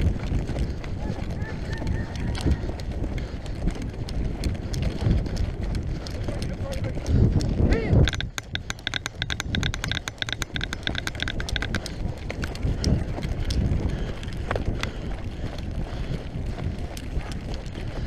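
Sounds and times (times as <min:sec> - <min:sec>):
movement against microphone: 0:00.0 - 0:18.0.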